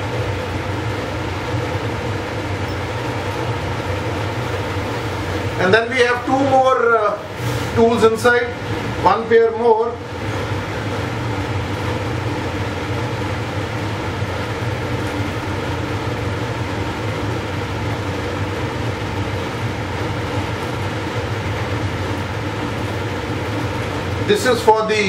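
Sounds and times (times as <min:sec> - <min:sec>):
ventilation fans humming: 0:00.0 - 0:25.0.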